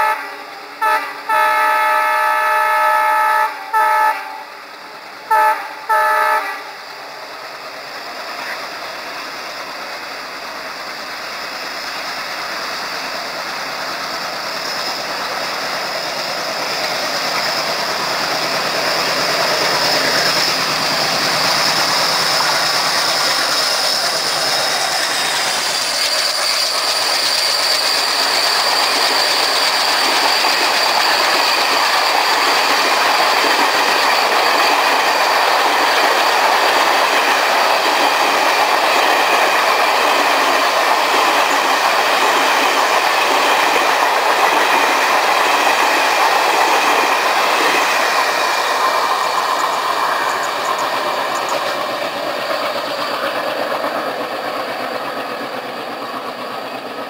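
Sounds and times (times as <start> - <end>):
train passing: 0.0 - 57.0.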